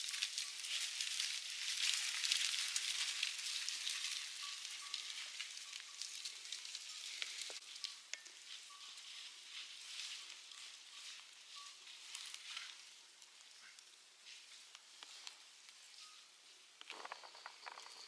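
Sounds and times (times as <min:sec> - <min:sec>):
animals rustling through dry grass: 0:00.0 - 0:18.0.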